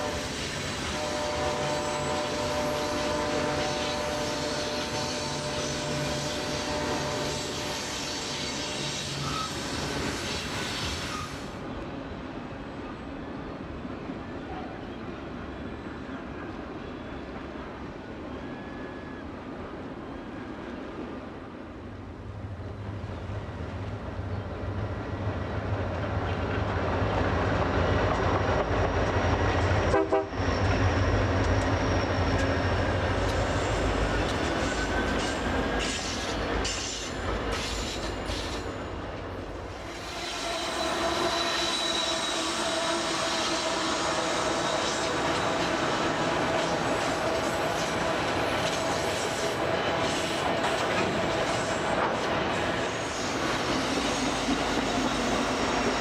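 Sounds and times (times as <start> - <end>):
diesel locomotives running: 0.0 - 56.0
locomotive whine with held tones: 0.0 - 56.0
train wheels rumbling on rail: 0.0 - 56.0.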